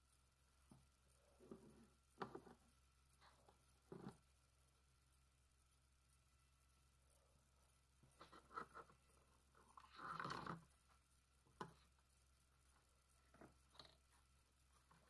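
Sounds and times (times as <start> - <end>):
small ticks: 0.0 - 15.0.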